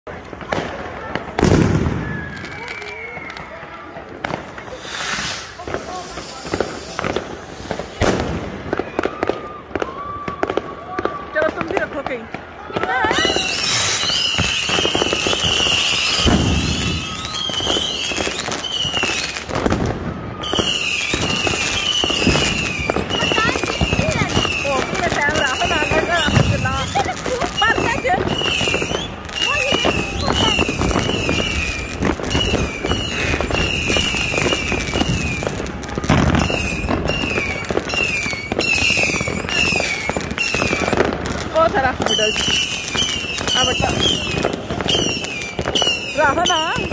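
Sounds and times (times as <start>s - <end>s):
fireworks crackling and banging: 0.0s - 46.9s
deep heavy firework bangs: 0.1s - 3.3s, 4.0s - 46.9s
firework whistles falling in pitch: 1.4s - 3.8s, 4.4s - 11.2s, 13.0s - 46.9s.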